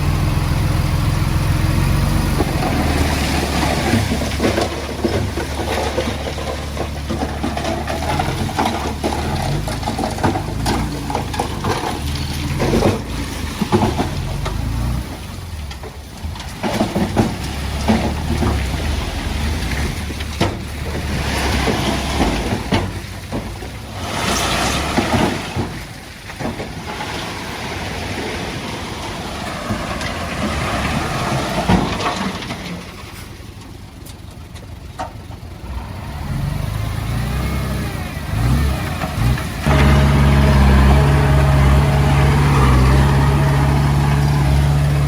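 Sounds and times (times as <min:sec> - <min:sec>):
bulldozer diesel engine: 0:00.0 - 0:45.0
tracks clanking and knocking: 0:01.7 - 0:35.9, 0:37.1 - 0:45.0.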